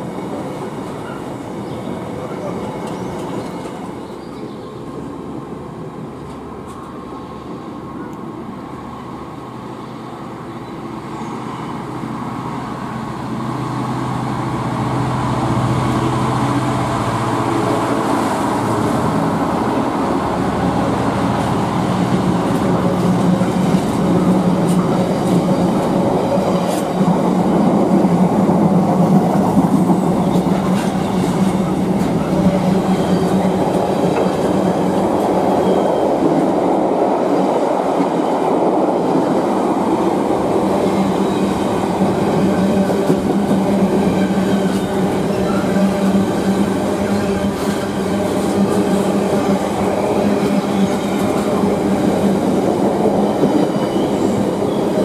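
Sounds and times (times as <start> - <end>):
diesel locomotive engine droning: 0.0 - 55.0.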